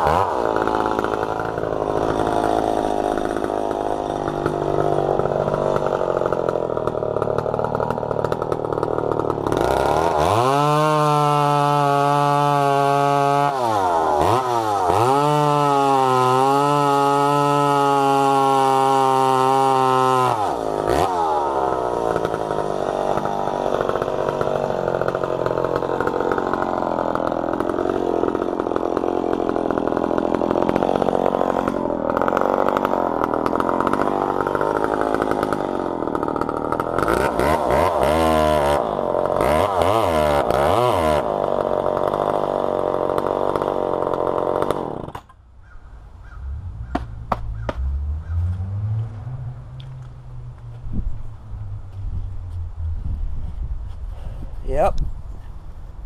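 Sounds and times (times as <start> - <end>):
chainsaw cutting log: 0.0 - 49.2, 51.9 - 55.1
chainsaw revving: 0.0 - 50.6.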